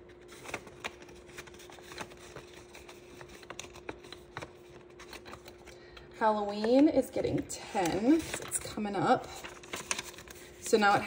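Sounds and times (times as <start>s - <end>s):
faint steady hum: 0.0s - 11.0s
paper banknotes being handled: 0.0s - 11.0s.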